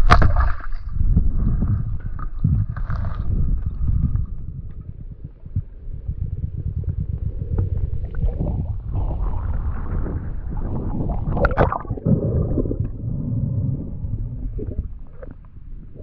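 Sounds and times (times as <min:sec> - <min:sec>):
underwater rumbling and gurgling: 0:00.0 - 0:16.0.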